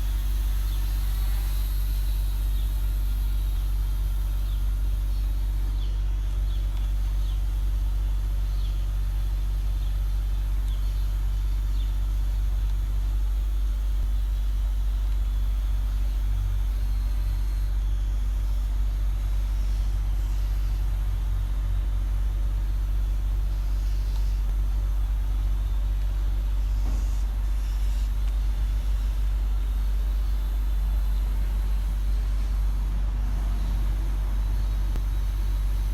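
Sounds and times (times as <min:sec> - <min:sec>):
deep hum: 0:00.0 - 0:35.9
road traffic rumble: 0:00.0 - 0:35.9.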